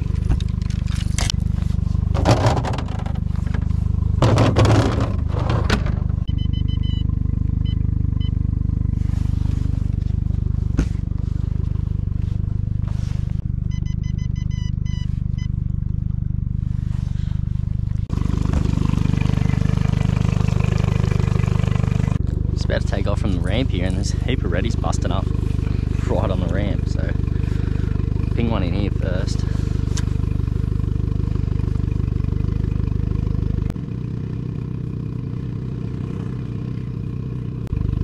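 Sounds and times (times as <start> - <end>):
outboard motor idling: 0.0 - 38.0.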